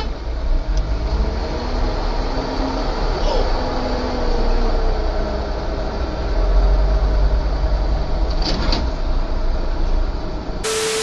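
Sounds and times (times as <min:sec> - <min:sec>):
heavy traffic rumble: 0:00.0 - 0:11.0.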